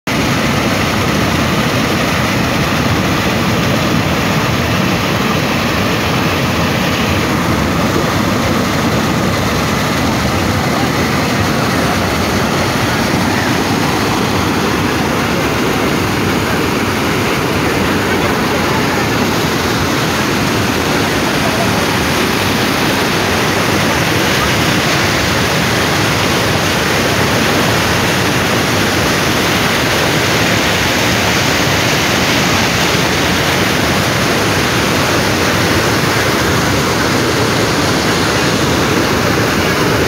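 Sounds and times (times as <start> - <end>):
river rapids rushing over rocks: 0.1 - 40.0.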